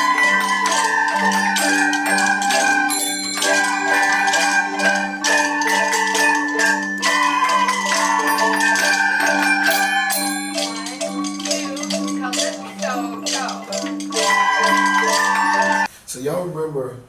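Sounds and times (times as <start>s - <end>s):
marimba-like mallet percussion music: 0.0s - 15.9s.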